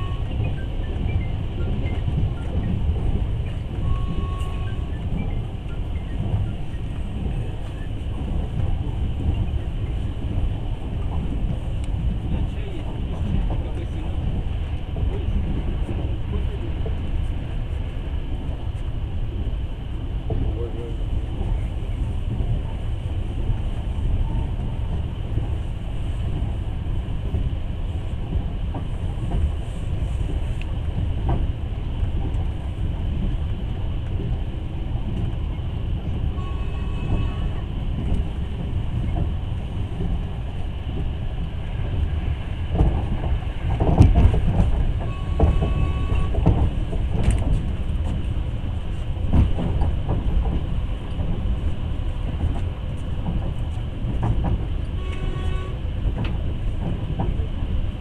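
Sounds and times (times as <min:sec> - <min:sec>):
train rumbling from inside carriage: 0:00.0 - 0:58.0.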